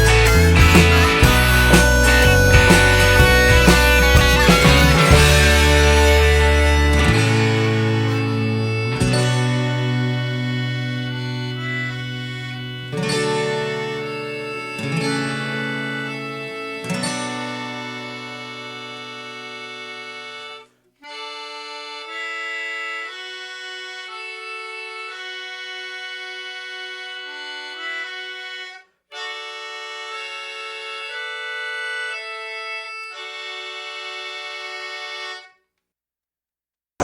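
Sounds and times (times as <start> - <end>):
accordion-like slow melody: 0.0 - 35.6.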